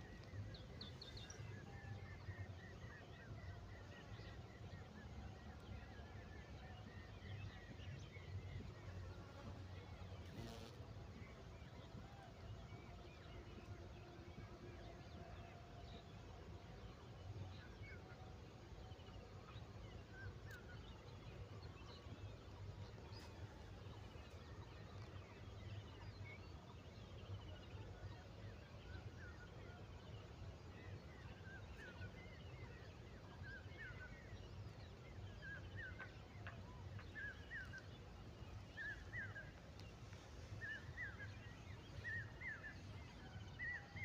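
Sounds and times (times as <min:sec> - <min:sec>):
low background noise: 0:00.0 - 0:44.0.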